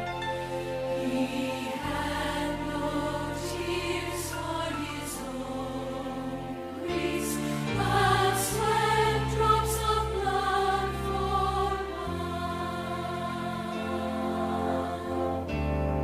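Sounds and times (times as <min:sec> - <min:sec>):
held accompaniment chords: 0:00.0 - 0:16.0
congregation singing a hymn: 0:00.6 - 0:15.6.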